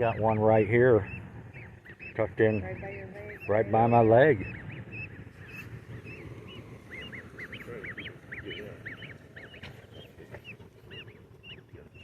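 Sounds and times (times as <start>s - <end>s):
goslings peeping: 0.0s - 12.0s.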